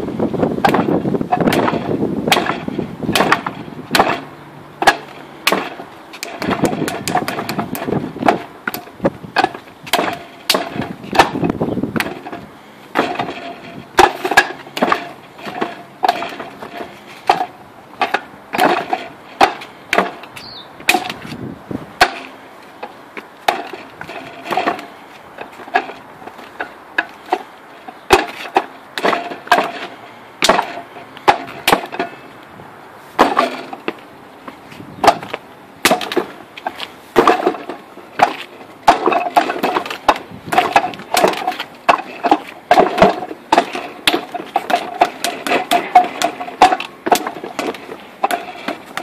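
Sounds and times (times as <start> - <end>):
hands striking wooden dummy: 0.6 - 21.4, 22.0 - 22.3, 23.4 - 32.2, 33.2 - 34.0, 35.0 - 49.0.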